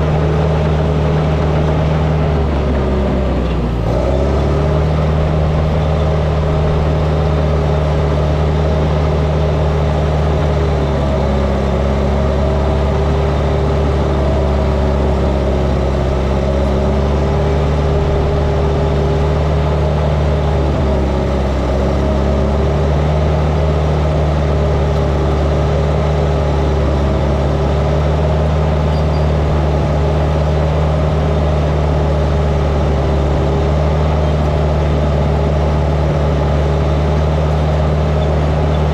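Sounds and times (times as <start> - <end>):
heavy diesel engine working: 0.0 - 38.9.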